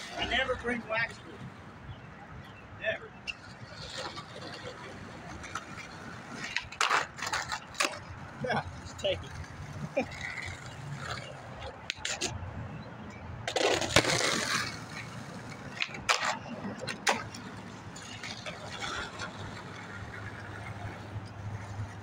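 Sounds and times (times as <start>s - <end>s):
skateboard rolling on pavement: 0.0s - 22.0s
skateboard clacks: 3.2s - 12.4s, 13.4s - 22.0s.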